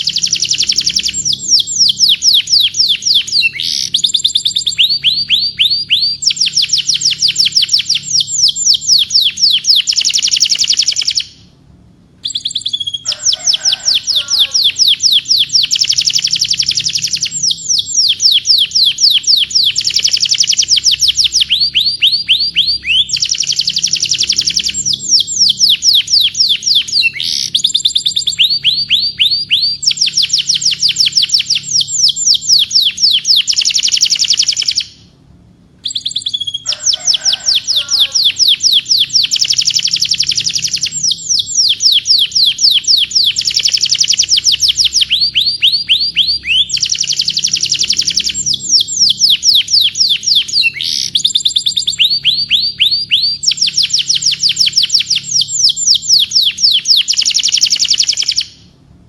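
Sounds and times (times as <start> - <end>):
canary singing trills: 0.0 - 11.6, 12.2 - 35.2, 35.8 - 58.7.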